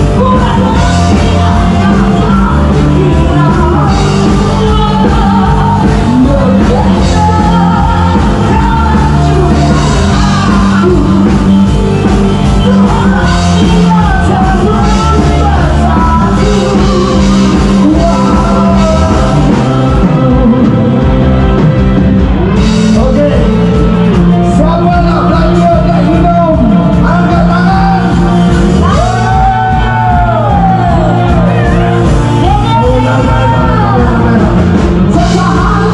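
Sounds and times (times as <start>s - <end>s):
lead vocalist singing: 0.0s - 35.9s
rock band playing: 0.0s - 35.9s.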